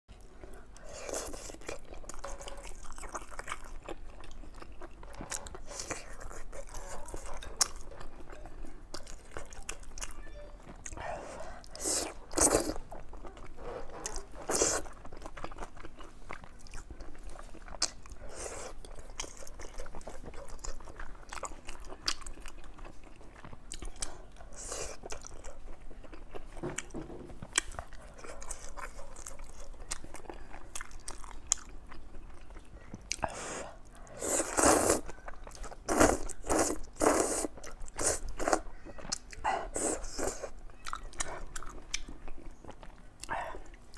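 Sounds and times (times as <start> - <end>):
person chewing food: 0.1 - 43.9.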